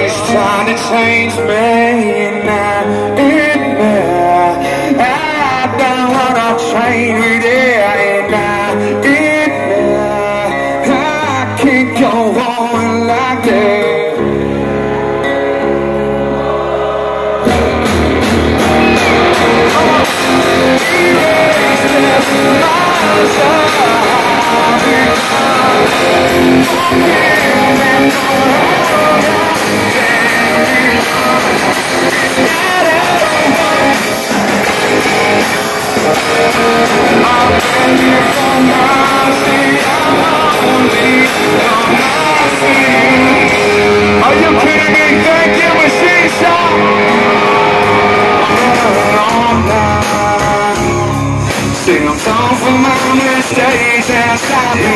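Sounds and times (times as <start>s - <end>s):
acoustic guitar: 0.0s - 54.9s
drums: 0.0s - 54.9s
person singing: 0.0s - 54.9s.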